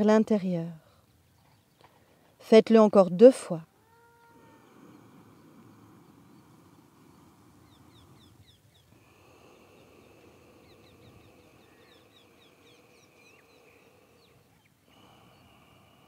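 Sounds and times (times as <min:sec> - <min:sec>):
low background noise: 0:00.0 - 0:16.0
small birds chirping: 0:00.0 - 0:16.0.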